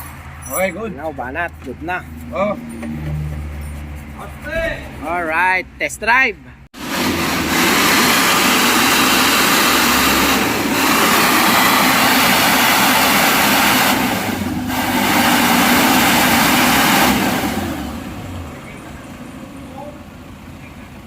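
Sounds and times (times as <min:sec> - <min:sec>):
diesel engine running: 0:00.0 - 0:05.8, 0:06.8 - 0:21.0.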